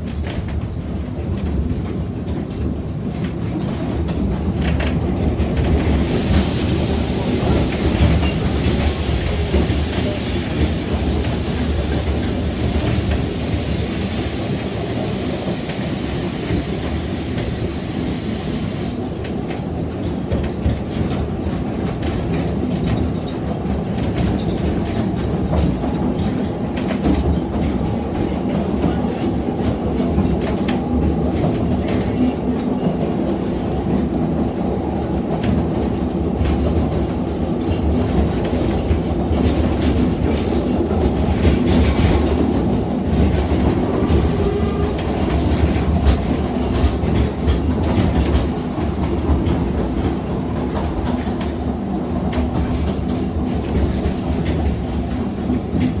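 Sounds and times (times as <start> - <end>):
train carriage rumbling: 0.0 - 56.0.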